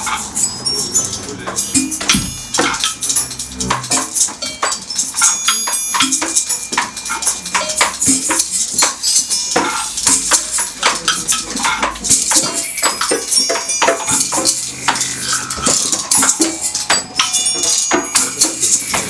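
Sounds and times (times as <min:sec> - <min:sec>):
percussion ensemble playing: 0:00.0 - 0:19.0
shaker-like rattling: 0:00.0 - 0:19.0.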